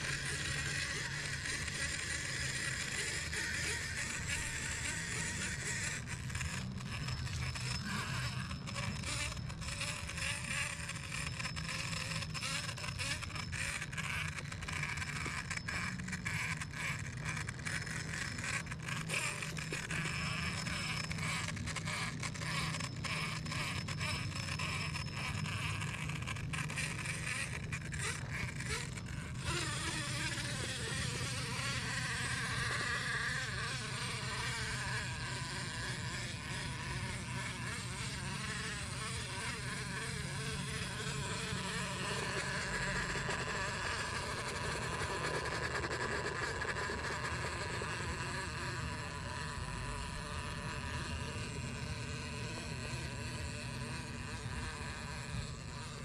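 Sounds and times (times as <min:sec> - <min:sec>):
electric motor and gears whining: 0:00.0 - 0:56.0.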